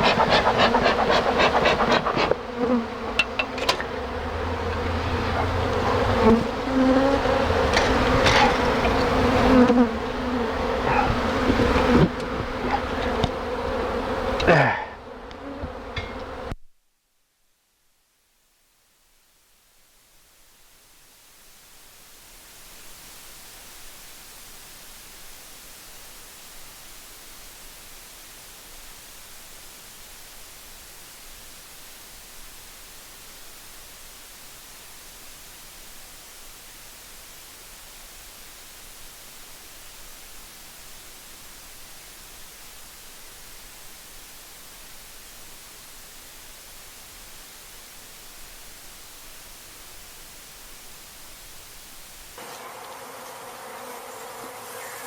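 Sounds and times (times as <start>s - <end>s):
steady even hiss: 0.0s - 15.4s, 18.2s - 55.0s.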